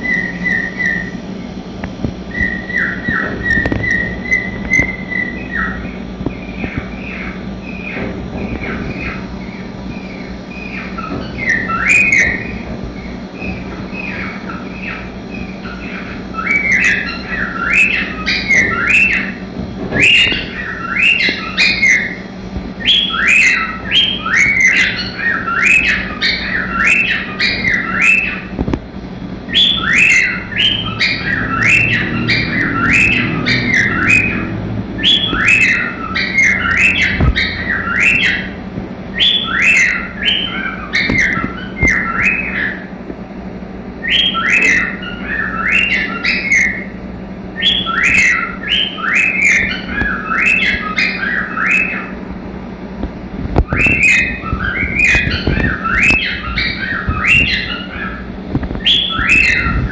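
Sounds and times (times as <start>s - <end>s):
cockatiel whistling song: 0.0s - 1.2s, 2.3s - 28.6s, 29.5s - 42.9s, 44.0s - 52.2s, 53.6s - 58.2s, 58.8s - 59.9s.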